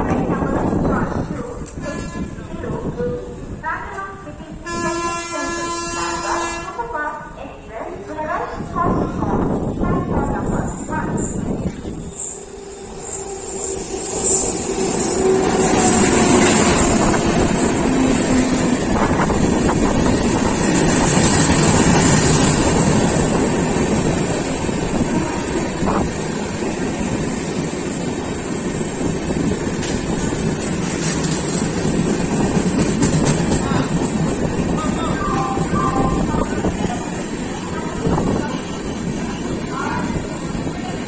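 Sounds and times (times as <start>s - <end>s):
train rumbling on rails: 0.0s - 41.0s.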